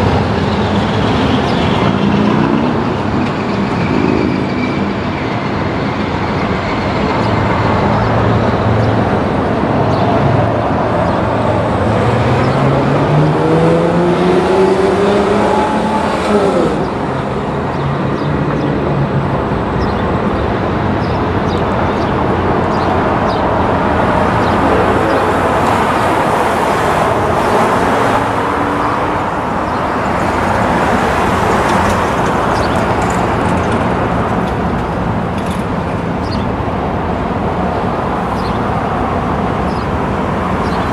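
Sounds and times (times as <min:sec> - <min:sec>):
heavy vehicle traffic rumble: 0:00.0 - 0:40.9.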